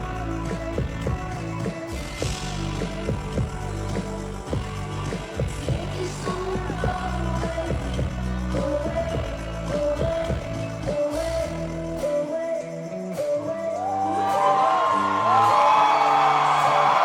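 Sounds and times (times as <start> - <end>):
bass line: 0.0 - 17.0.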